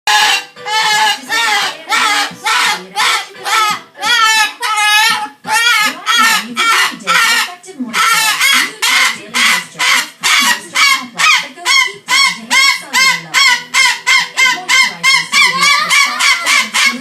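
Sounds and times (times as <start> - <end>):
cockatoo screaming: 0.1 - 17.0.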